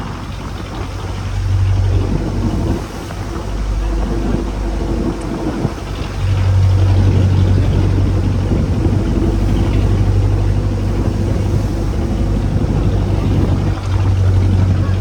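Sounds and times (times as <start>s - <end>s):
boat engine running: 0.0s - 15.0s
rushing water: 0.0s - 15.0s
wind: 0.0s - 15.0s.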